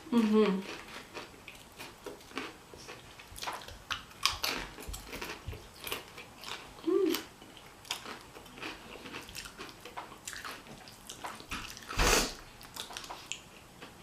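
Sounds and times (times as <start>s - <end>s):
chewing and crunching chips: 0.0s - 14.0s.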